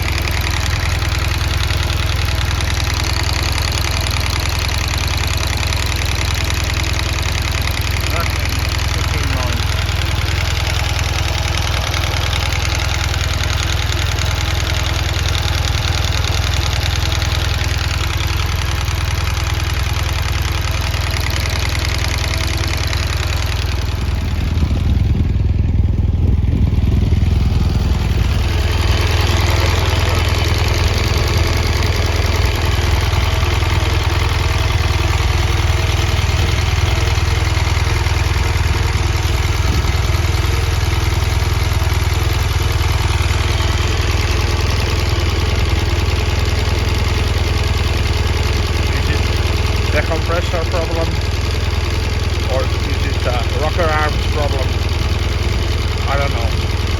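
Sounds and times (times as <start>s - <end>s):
engine ticking: 0.0s - 56.9s
motorcycle engine idling: 0.0s - 56.9s.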